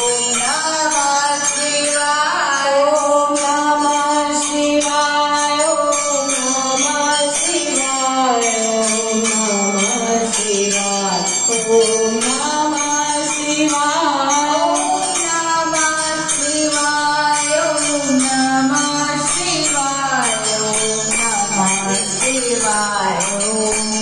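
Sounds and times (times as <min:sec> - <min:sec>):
jingling percussion rhythm: 0:00.0 - 0:24.0
person singing gliding notes: 0:00.0 - 0:24.0.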